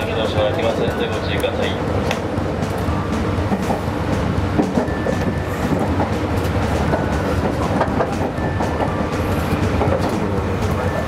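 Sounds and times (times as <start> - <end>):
electric train running: 0.0 - 11.0
wheels clicking over rail joints: 0.0 - 11.0.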